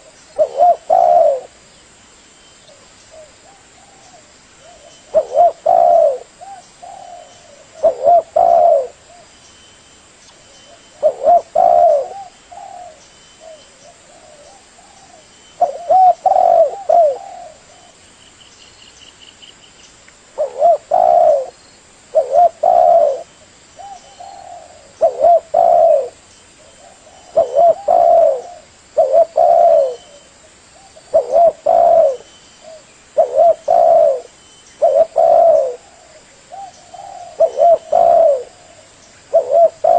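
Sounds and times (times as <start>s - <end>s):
dove cooing: 0.0s - 1.6s, 2.7s - 9.3s, 10.7s - 18.0s, 20.4s - 39.9s
faint high bird trill: 2.2s - 39.9s.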